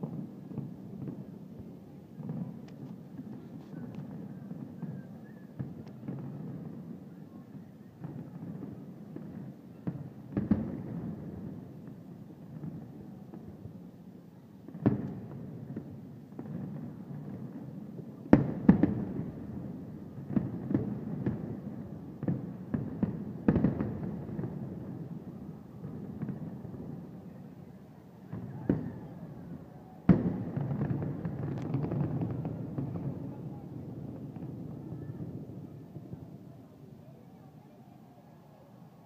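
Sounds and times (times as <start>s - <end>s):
fireworks bursting with echoing bangs: 0.0s - 7.2s, 8.0s - 13.8s, 14.6s - 36.7s.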